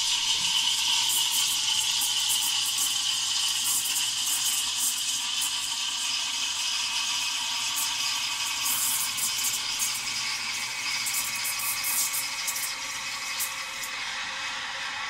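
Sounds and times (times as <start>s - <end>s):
steam wand hissing: 0.0s - 6.3s, 7.0s - 14.2s.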